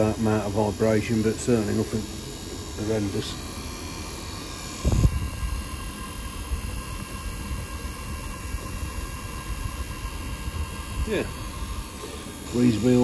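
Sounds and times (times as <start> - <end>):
blower fan motor whirring: 0.0 - 13.0.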